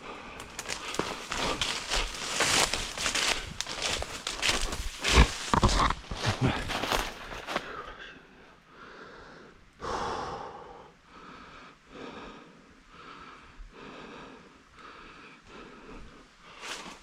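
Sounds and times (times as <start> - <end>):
runner breathing hard: 0.0 - 17.0.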